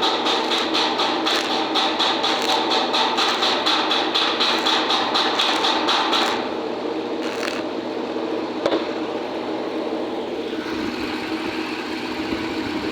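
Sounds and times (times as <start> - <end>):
steady machine hum: 0.0 - 12.9.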